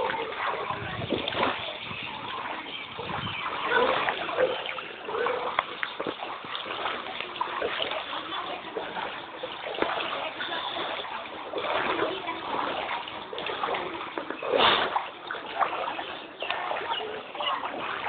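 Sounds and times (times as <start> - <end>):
loud water splash: 0.0 - 8.1, 8.8 - 18.0
floodwater splashing and sloshing: 0.0 - 18.0.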